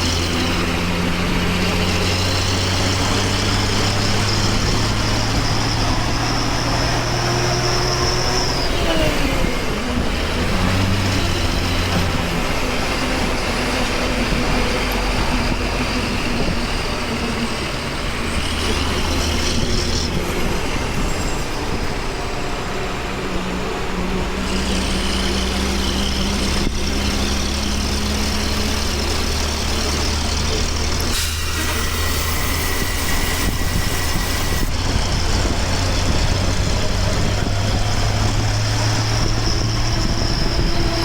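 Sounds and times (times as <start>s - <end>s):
bus diesel engine: 0.0s - 41.0s
tyre and road noise: 0.0s - 41.0s.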